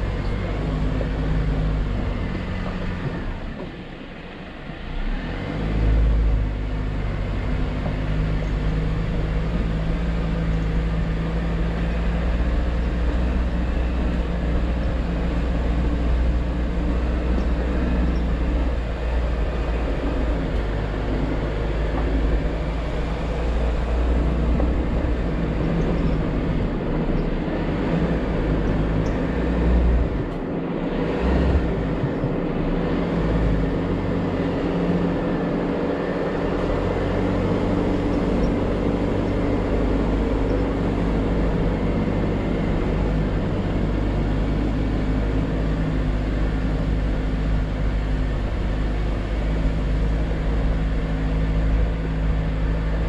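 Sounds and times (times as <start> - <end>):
off-road vehicle engine rumbling: 0.0 - 53.0.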